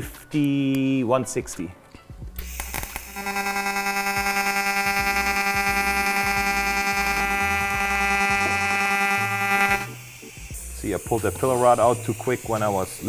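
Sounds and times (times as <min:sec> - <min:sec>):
welding arc buzzing: 0:02.4 - 0:13.0.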